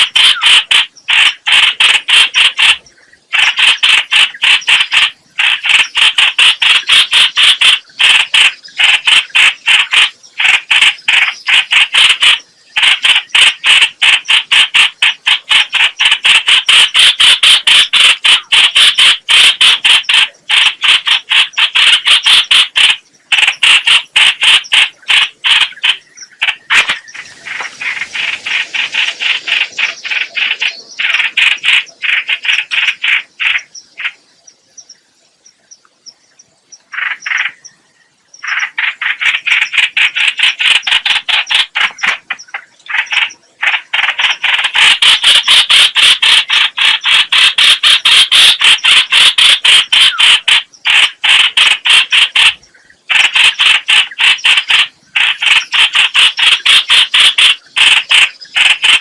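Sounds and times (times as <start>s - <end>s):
bird harsh chattering: 0.0s - 34.2s, 36.9s - 37.7s, 38.4s - 59.0s.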